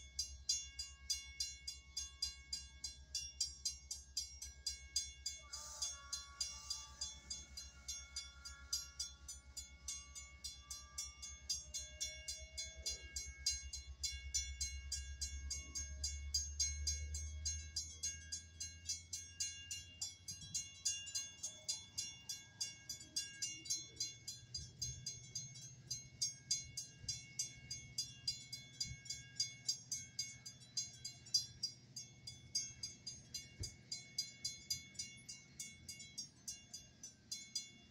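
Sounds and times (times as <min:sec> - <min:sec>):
crossing bells ringing: 0:00.0 - 0:37.9.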